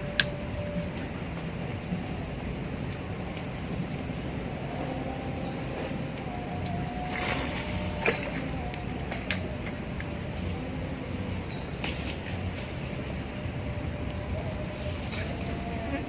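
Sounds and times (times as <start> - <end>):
faint wavering hum: 0.0 - 16.0
steady low rumble: 0.0 - 16.0.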